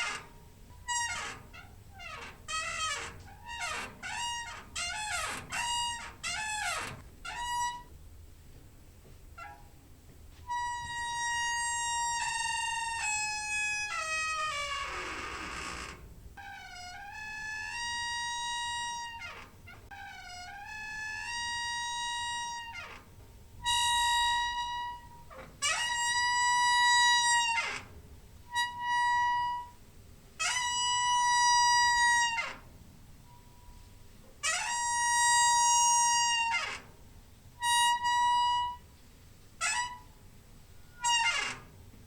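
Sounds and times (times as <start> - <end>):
creaking door hinge squeaking: 0.0 - 8.0, 9.3 - 9.8, 10.4 - 29.8, 30.4 - 37.0, 37.6 - 38.9, 39.6 - 41.8.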